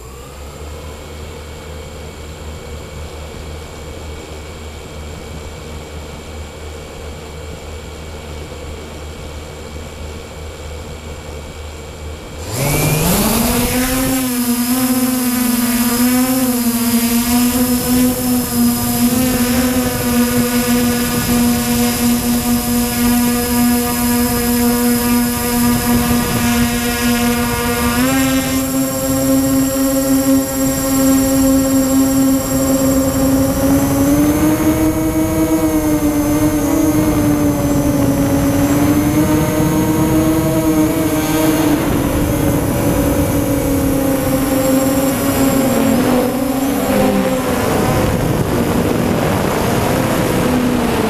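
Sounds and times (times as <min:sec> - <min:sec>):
drone motors whining: 0:00.0 - 0:04.1, 0:12.3 - 0:51.0.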